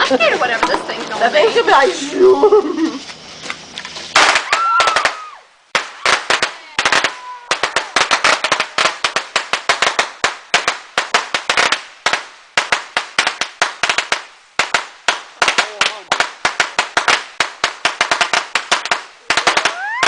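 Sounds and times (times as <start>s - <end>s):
firecrackers popping: 0.0s - 20.0s.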